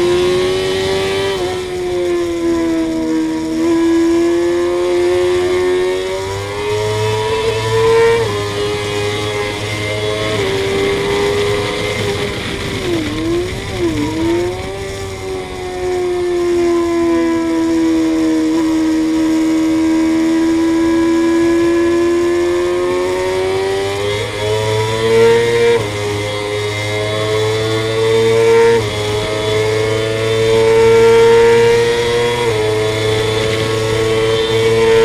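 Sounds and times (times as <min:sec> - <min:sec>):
motorcycle engine at speed: 0:00.0 - 0:35.0.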